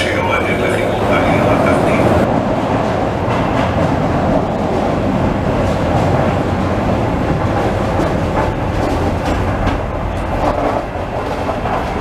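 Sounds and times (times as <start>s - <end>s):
funicular car rumbling: 0.0s - 12.0s.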